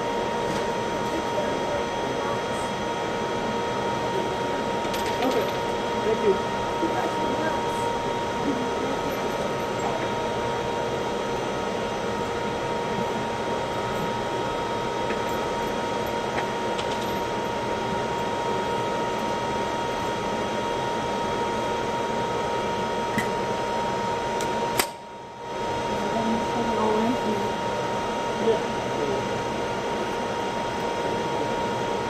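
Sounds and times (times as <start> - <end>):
mechanical hum with high tone: 0.0 - 32.0.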